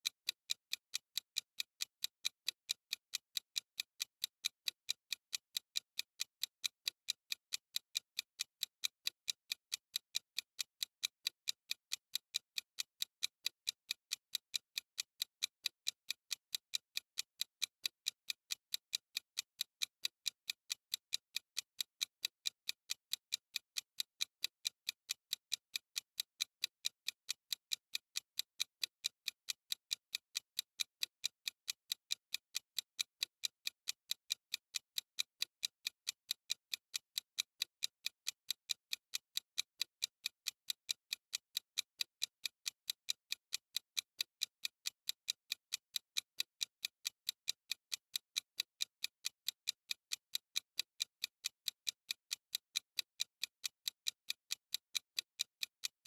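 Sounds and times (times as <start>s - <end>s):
fast clock ticking: 0.0s - 56.0s.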